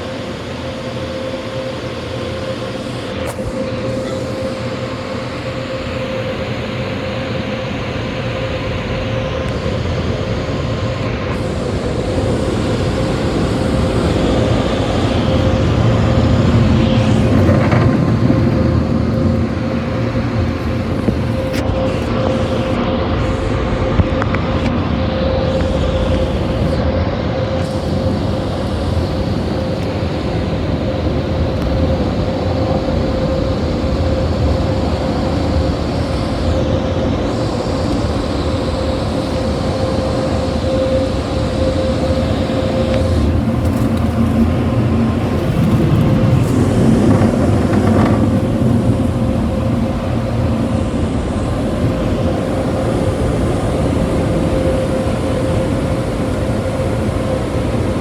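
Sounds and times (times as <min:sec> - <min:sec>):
car wash air dryers blowing: 0:00.0 - 0:58.0.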